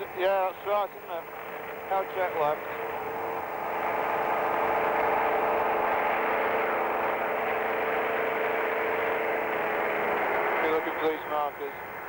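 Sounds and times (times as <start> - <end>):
engine and propeller droning: 0.0 - 12.0.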